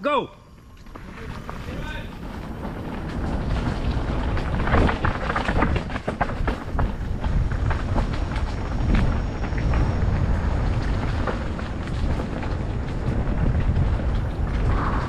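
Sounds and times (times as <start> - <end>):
wind rumbling on microphone: 0.3 - 15.0
bike rattling over dirt: 0.5 - 15.0.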